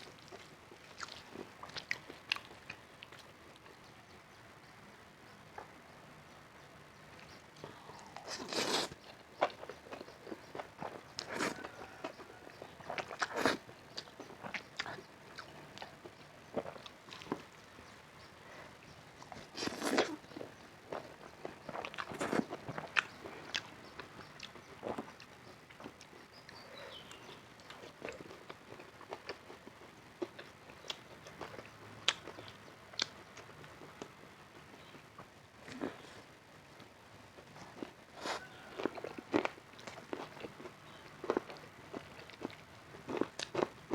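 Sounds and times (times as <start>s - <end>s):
chewing crunchy food: 0.0s - 4.4s, 7.0s - 43.9s.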